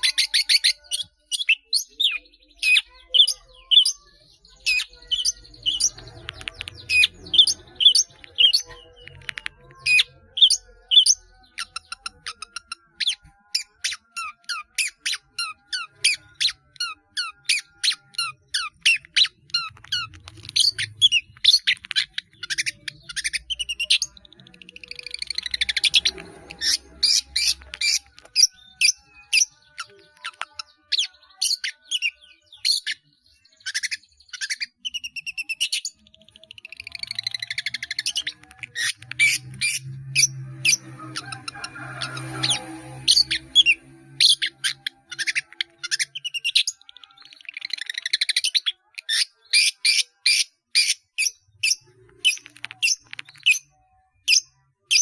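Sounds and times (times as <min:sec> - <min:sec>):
shrike singing rapid chips: 0:00.0 - 0:33.0, 0:33.6 - 0:55.0.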